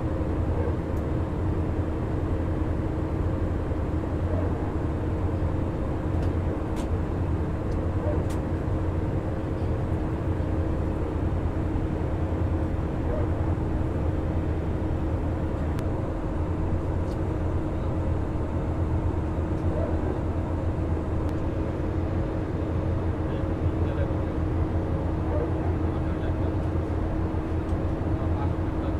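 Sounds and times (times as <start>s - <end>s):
aircraft engine and airflow roar: 0.0s - 28.9s
constant humming tone: 0.0s - 28.9s.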